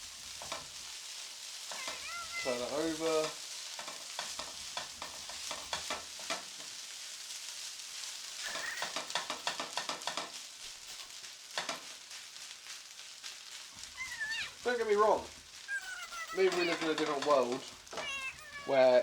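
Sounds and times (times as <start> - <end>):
rice sizzling in a pan: 0.0 - 19.0
spatula scraping a pan: 0.0 - 19.0.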